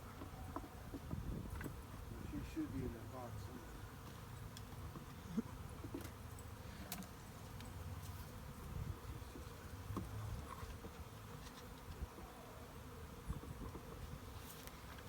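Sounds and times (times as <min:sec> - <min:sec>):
bees buzzing around a hive: 0:00.0 - 0:15.0.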